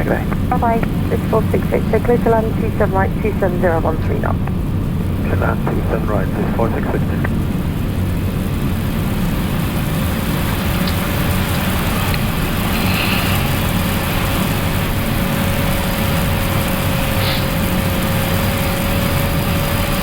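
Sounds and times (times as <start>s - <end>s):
faint steady whine: 0.0s - 20.0s
low engine hum: 0.0s - 20.0s.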